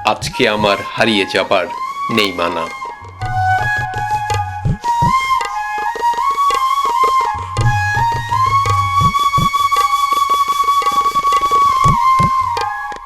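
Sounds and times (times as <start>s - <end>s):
tabla drumming: 0.0s - 1.0s, 2.1s - 13.0s
flute melody: 0.0s - 13.0s.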